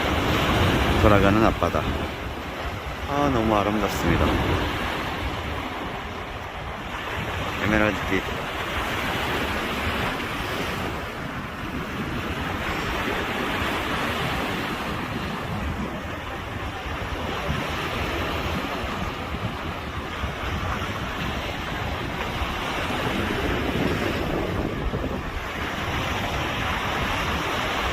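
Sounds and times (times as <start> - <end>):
sea waves washing in: 0.0 - 27.9
wind gusting across microphone: 0.0 - 27.9.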